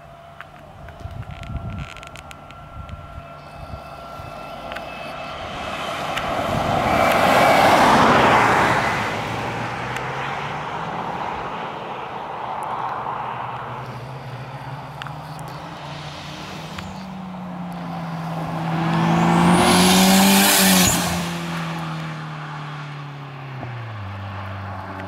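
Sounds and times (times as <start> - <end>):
distant engine hum: 0.0 - 23.9.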